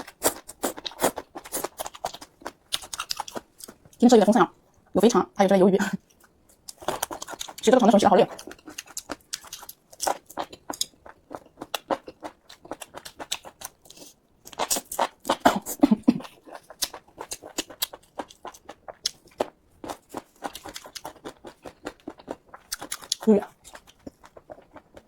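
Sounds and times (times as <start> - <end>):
person chewing food: 0.0 - 4.0, 6.0 - 7.7, 8.3 - 25.0.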